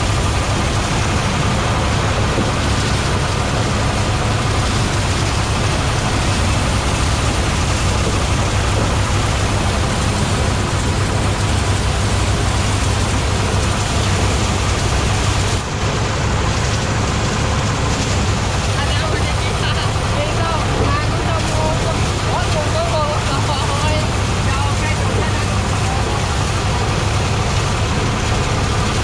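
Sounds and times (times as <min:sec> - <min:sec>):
engine humming: 0:00.0 - 0:29.0
threshing machine noise: 0:00.0 - 0:29.0.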